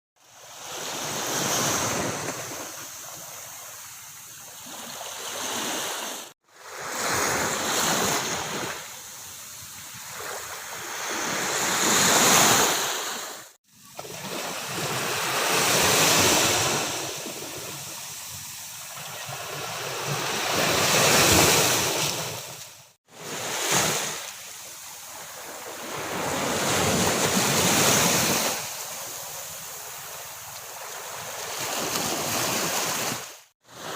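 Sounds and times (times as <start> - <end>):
waves breaking on beach: 0.2 - 33.9.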